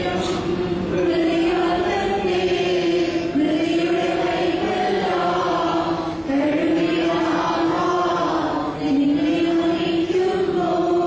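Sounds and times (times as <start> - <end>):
choir singing a hymn: 0.9 - 11.0.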